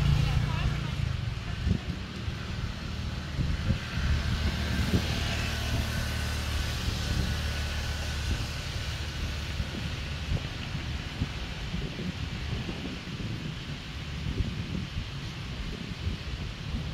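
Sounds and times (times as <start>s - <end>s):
vehicle engine hum passing: 0.0s - 16.9s.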